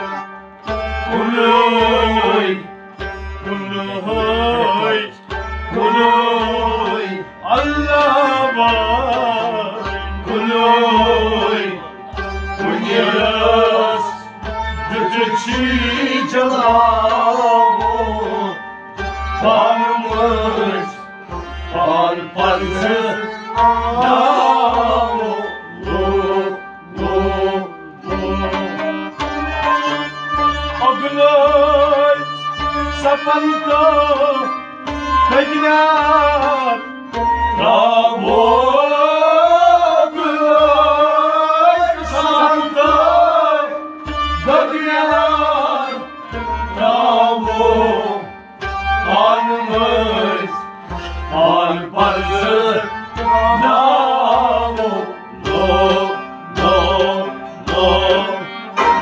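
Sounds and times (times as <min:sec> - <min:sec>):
bowed sarangi: 0:00.0 - 0:59.0
harmonium: 0:00.0 - 0:59.0
men singing folk song: 0:00.8 - 0:18.6, 0:19.2 - 0:29.8, 0:30.6 - 0:32.3, 0:32.9 - 0:36.9, 0:37.5 - 0:59.0.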